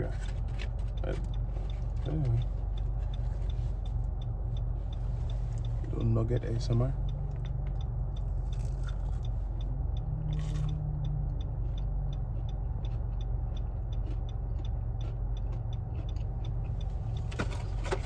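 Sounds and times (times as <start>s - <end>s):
car engine idling: 0.0s - 18.0s
soft chewing: 0.1s - 18.0s
light ticking: 0.6s - 17.3s.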